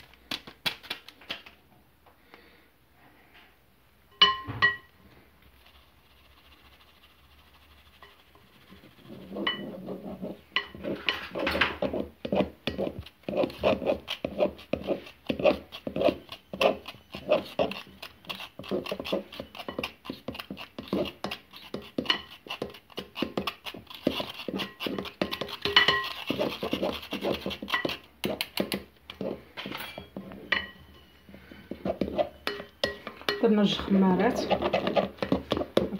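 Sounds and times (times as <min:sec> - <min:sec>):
whisk scratching and tapping in bowl: 0:05.4 - 0:35.9.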